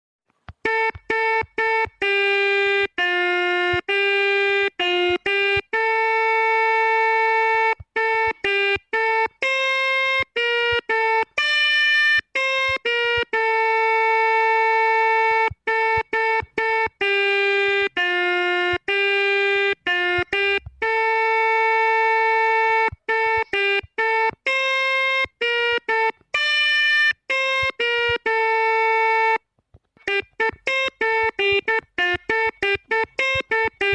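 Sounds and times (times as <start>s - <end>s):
multi-tone horn melody: 0.6s - 29.4s, 30.0s - 33.9s.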